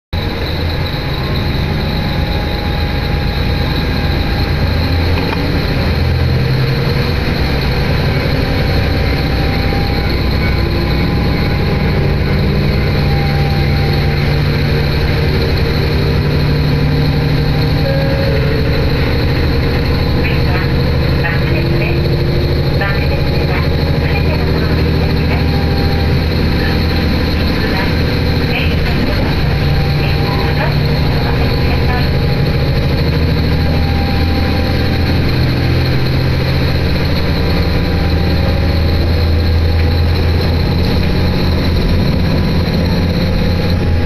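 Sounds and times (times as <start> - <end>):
diesel engine hum: 0.0 - 44.0
train rumbling on track: 0.0 - 44.0.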